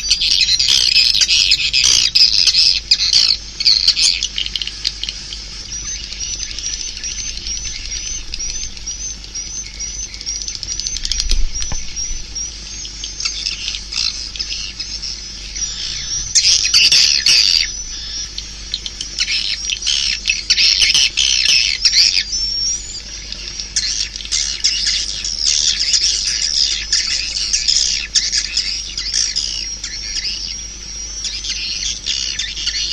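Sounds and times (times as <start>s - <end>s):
swiftlet chattering calls: 0.0s - 32.9s.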